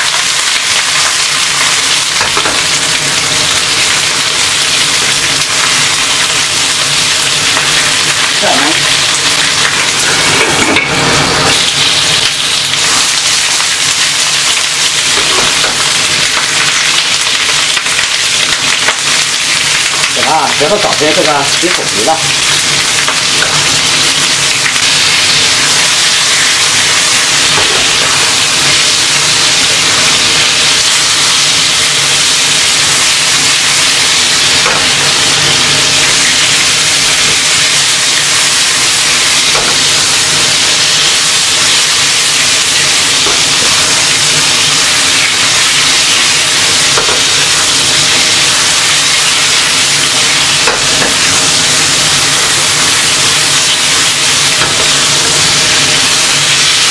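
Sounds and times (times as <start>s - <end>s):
peppers sizzling in hot oil: 0.0s - 56.9s.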